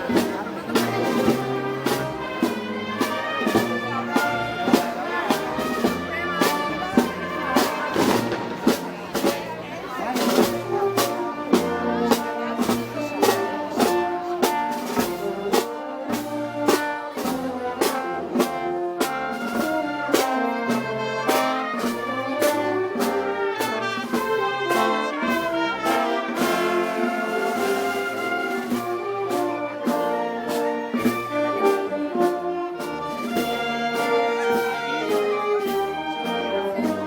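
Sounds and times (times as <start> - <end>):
drum and cymbal beat: 0.0 - 37.0
trumpets and trombones: 0.0 - 37.0.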